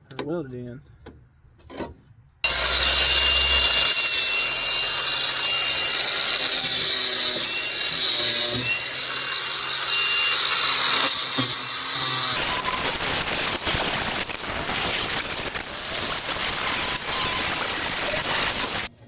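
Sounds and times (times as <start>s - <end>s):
angle grinder grinding metal: 2.4s - 19.0s.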